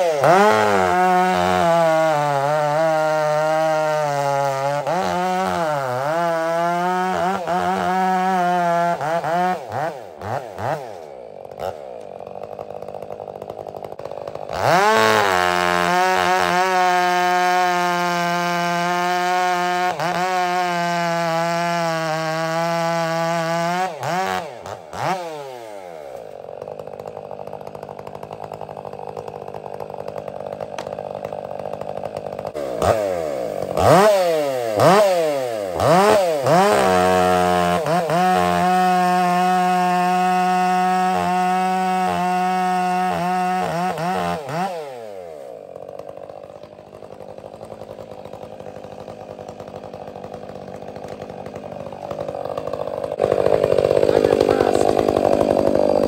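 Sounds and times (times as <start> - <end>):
chainsaw cutting log: 0.0 - 56.0
chainsaw idling and revving: 0.0 - 56.0.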